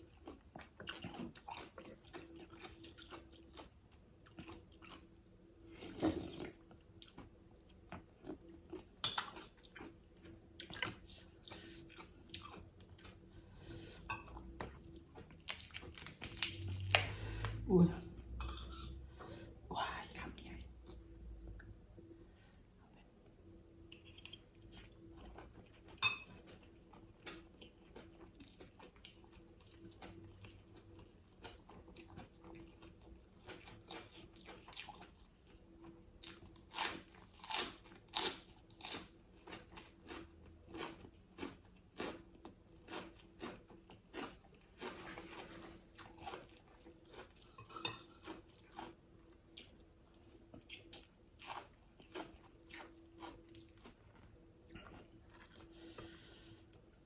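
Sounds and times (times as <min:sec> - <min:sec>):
person chewing food: 0:00.0 - 0:17.6, 0:23.8 - 0:56.9.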